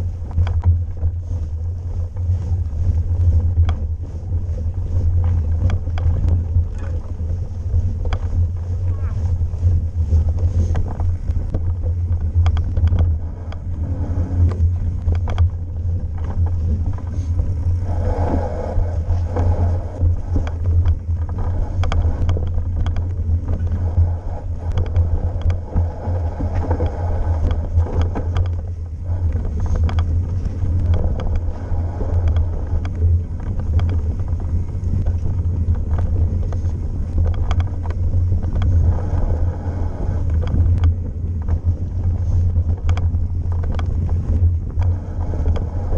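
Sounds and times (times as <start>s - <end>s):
bike knocks and rattles over bumps: 0.0s - 45.9s
wind rumble on microphone: 0.0s - 45.9s.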